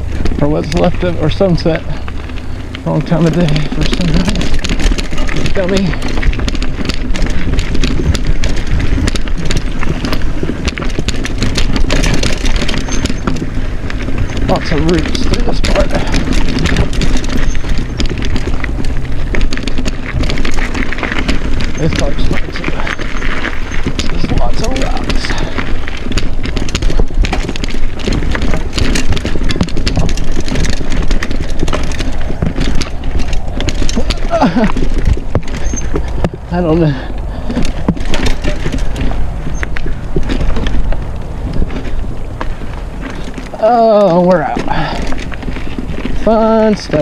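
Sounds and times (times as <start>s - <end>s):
low rumble: 0.0s - 47.0s
mountain bike rattling on trail: 0.0s - 47.0s.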